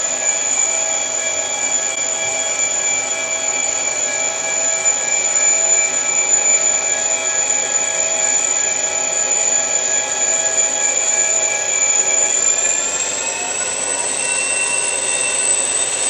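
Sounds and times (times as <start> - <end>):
model locomotive engine drone: 0.0 - 16.0.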